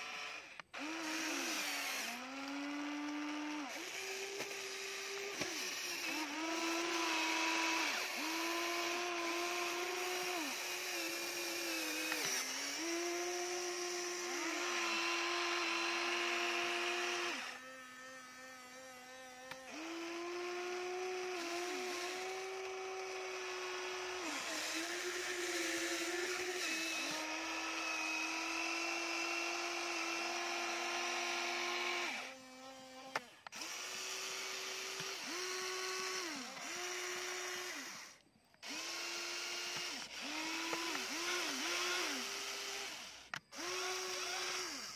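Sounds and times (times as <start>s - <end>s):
toy excavator motors whining: 0.0s - 44.9s.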